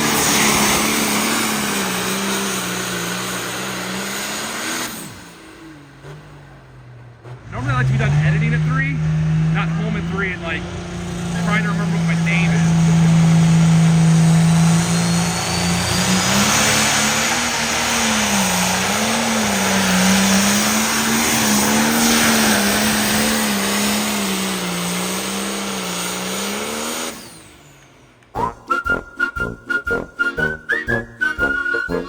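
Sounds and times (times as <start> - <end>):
engine running at high revs: 0.0 - 32.0.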